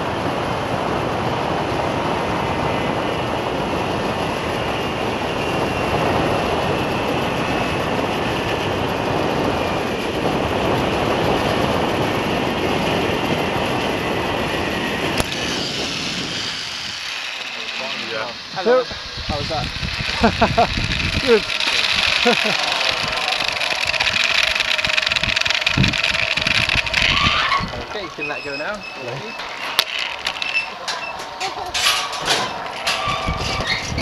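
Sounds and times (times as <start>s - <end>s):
wind rushing over microphone: 0.0s - 29.8s, 31.7s - 34.0s
trolley running on steel cable: 0.0s - 34.0s.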